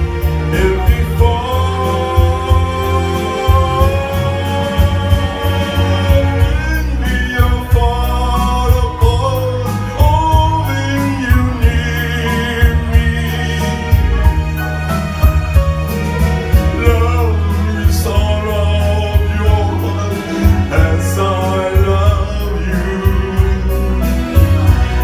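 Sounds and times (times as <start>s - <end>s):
amplified backing music: 0.0s - 25.0s
man singing into a microphone: 0.1s - 14.4s, 16.5s - 25.0s.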